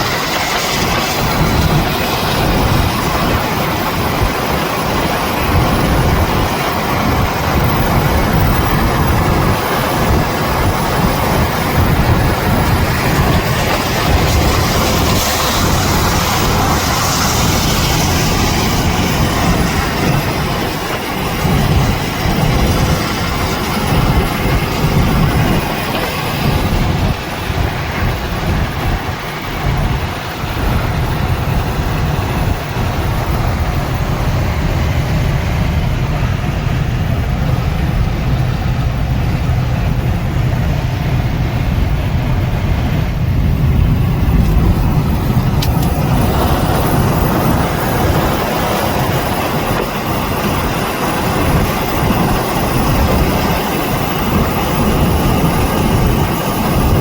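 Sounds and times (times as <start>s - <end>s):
truck engine and road rumble: 0.0s - 57.0s
tyre and wind noise: 0.0s - 57.0s.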